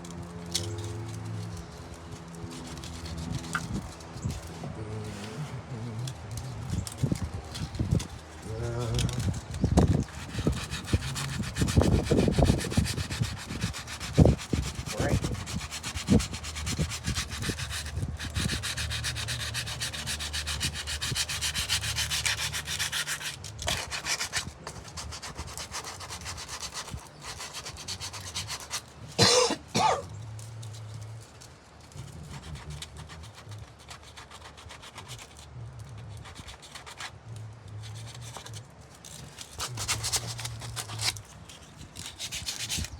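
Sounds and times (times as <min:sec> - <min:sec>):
sanding filler on wood: 0:02.5 - 0:29.8, 0:32.0 - 0:37.2, 0:37.8 - 0:42.9.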